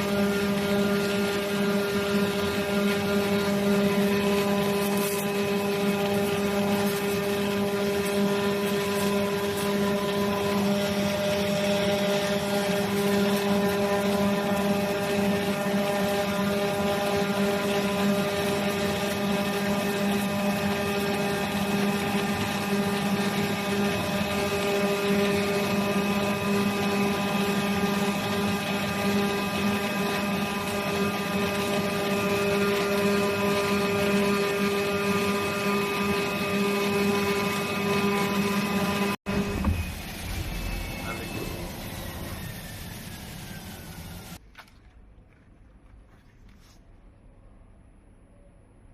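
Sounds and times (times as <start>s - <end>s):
cutting machine humming and buzzing: 0.0s - 44.4s.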